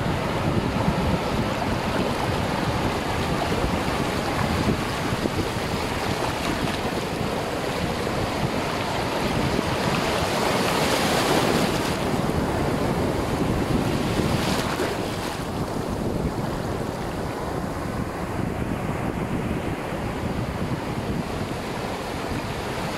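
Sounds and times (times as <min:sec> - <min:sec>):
surf washing through shallows: 0:00.0 - 0:22.9
waves breaking: 0:00.0 - 0:22.9
wind buffeting microphone: 0:00.0 - 0:22.9.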